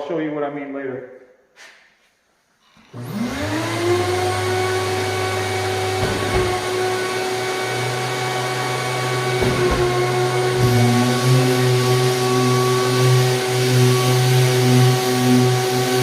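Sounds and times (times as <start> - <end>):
drywall sander motor: 2.9 - 16.0.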